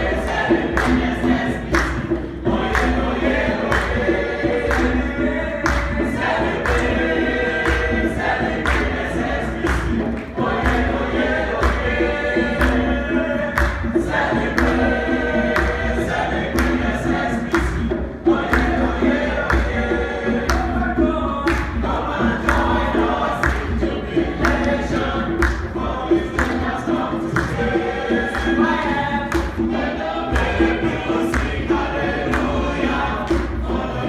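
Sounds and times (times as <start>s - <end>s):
group singing gospel: 0.0s - 34.0s
rhythmic hand-clapping: 0.0s - 34.0s.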